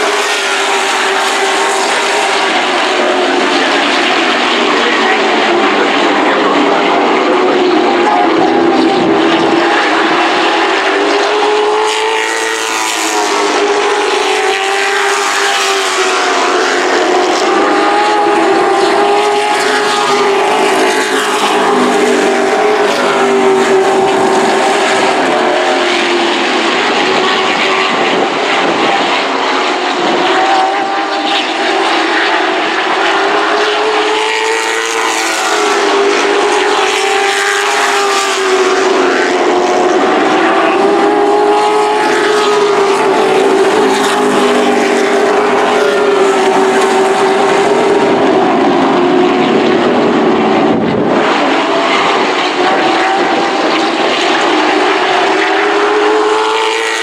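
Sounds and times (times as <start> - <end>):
racing truck engines: 0.0 - 57.0.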